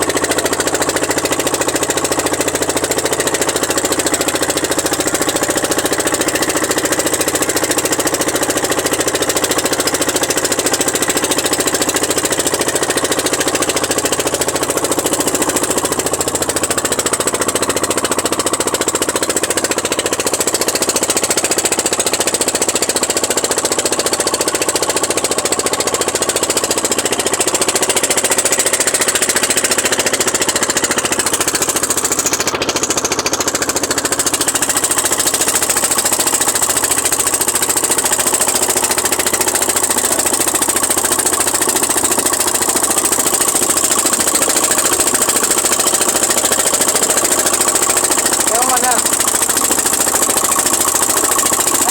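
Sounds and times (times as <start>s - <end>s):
boat engine pulsing: 0.0s - 51.9s.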